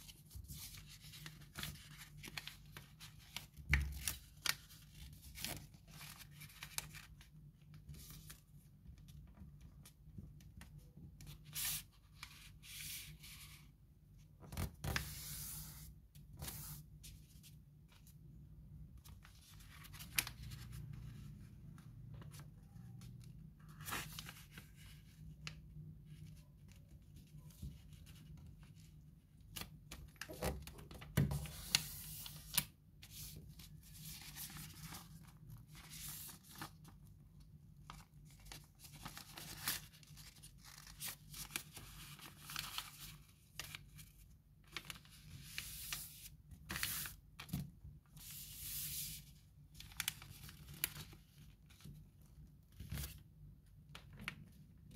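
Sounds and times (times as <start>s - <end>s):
paper rustling and crinkling: 0.0s - 13.6s, 19.0s - 53.3s.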